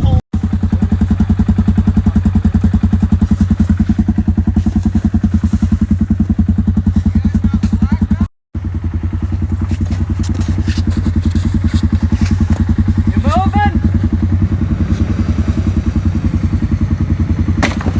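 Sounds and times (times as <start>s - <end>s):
engine idling: 0.0s - 17.9s.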